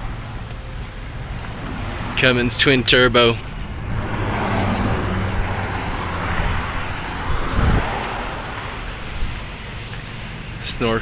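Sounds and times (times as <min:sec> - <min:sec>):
broad rushing noise: 0:00.0 - 0:11.0
vehicle engine hum: 0:00.0 - 0:11.0.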